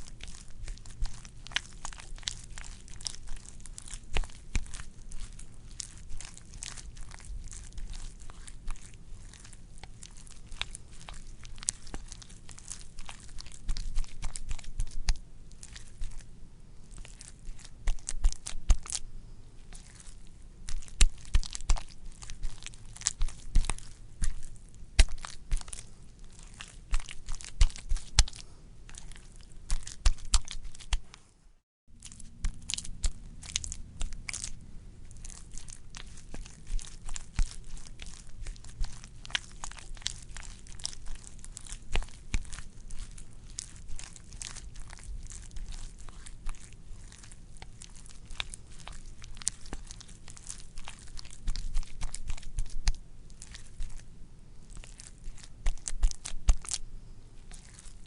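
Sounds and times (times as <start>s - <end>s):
wet squishy squelching: 0.0s - 31.3s, 31.9s - 58.0s.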